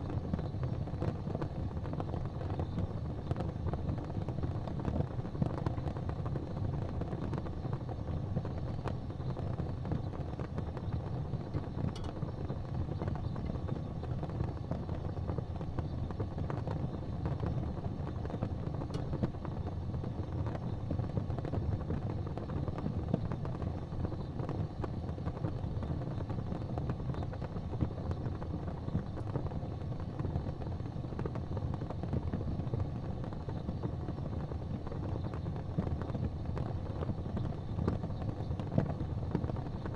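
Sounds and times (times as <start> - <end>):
faint fire crackles: 0.0 - 39.9
wood fire burning: 0.0 - 39.9.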